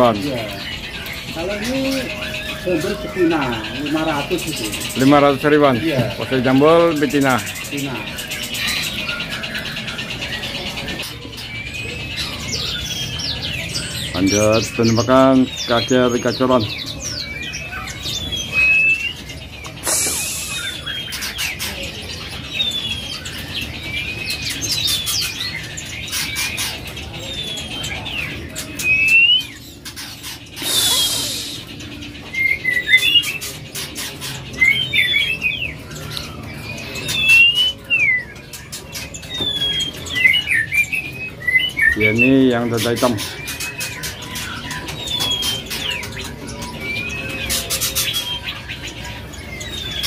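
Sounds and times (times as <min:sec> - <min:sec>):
songbirds chirping and singing: 0:00.0 - 0:50.0.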